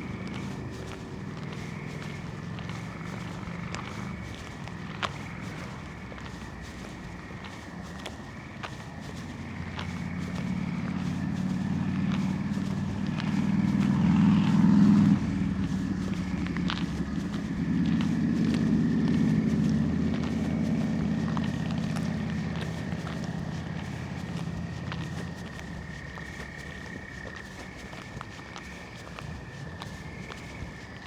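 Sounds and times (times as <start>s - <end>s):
footsteps on pavement: 0.0s - 31.0s
vehicle passing close by: 0.0s - 31.0s.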